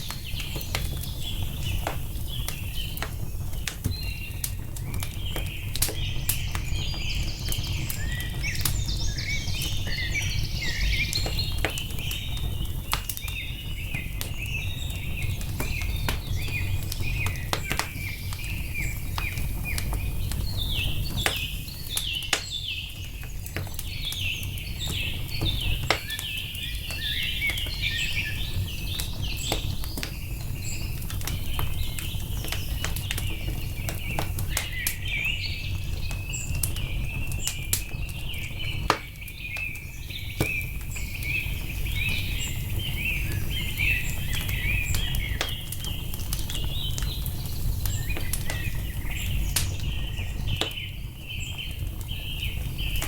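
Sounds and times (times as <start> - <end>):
small birds chirping: 0.0 - 53.0
wood fire crackling: 0.0 - 53.0.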